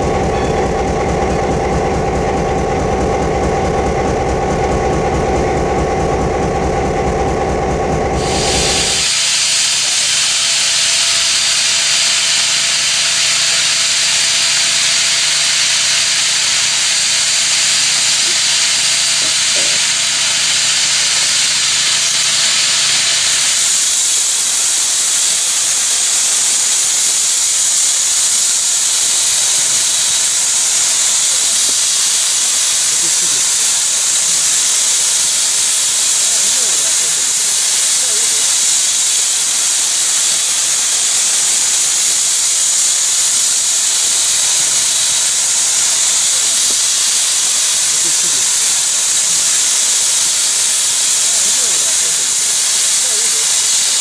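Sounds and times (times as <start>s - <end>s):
steam locomotive hissing: 0.0s - 54.0s
train rumbling: 0.0s - 54.0s.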